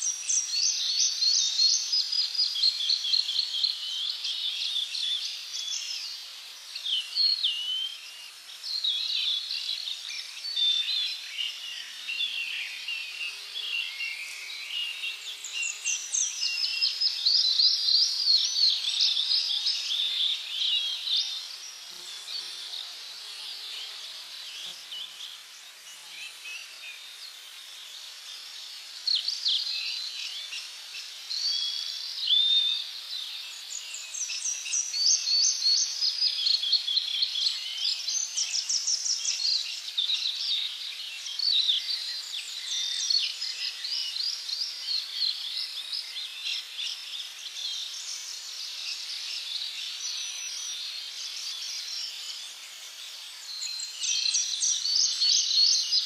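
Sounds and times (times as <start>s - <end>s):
faint steady background hiss: 0.0s - 56.0s
songbirds chirping and trilling: 0.0s - 56.0s.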